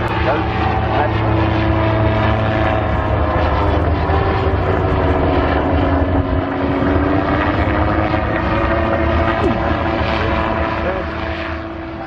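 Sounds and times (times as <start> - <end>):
gyrocopter propeller engine droning: 0.0 - 12.0.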